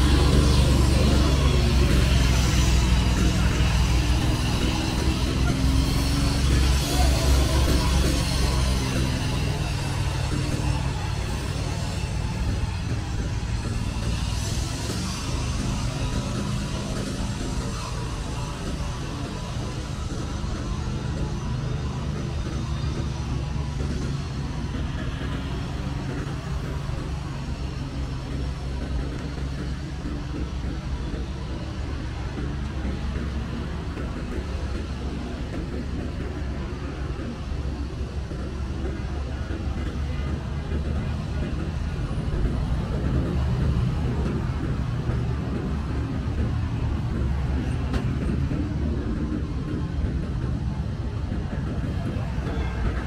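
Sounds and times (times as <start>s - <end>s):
cars passing: 0.0s - 53.0s
low traffic rumble: 0.0s - 53.0s.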